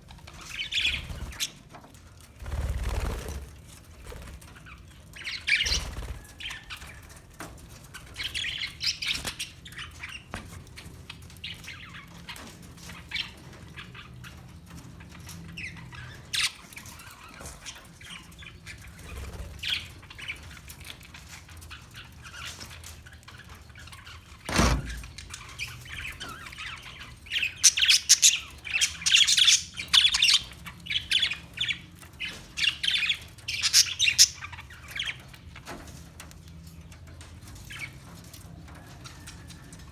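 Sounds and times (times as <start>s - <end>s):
parakeets chirping and squawking: 0.3s - 1.6s, 2.4s - 7.0s, 7.9s - 35.4s, 37.6s - 38.0s.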